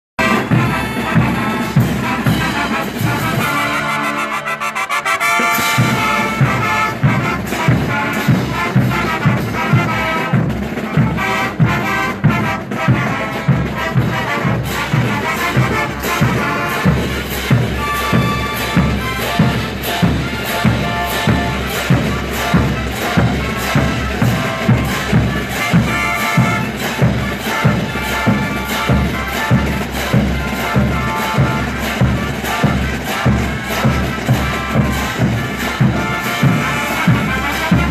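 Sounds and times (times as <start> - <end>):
brass band playing: 0.2 - 37.9.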